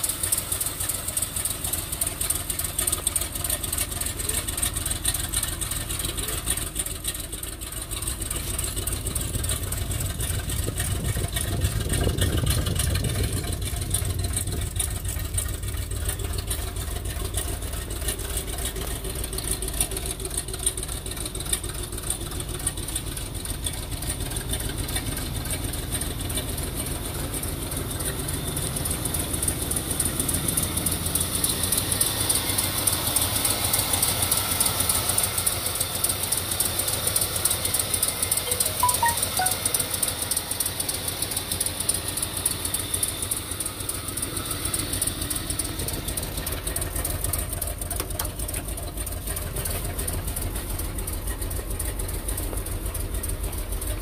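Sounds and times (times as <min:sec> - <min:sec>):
pickup truck engine idling: 0:00.0 - 0:54.0.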